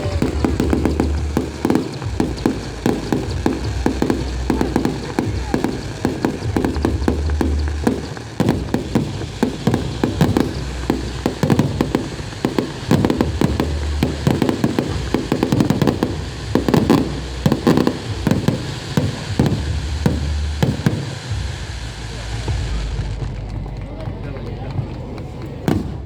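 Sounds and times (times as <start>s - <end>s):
fireworks bangs and booms: 0.0s - 26.0s.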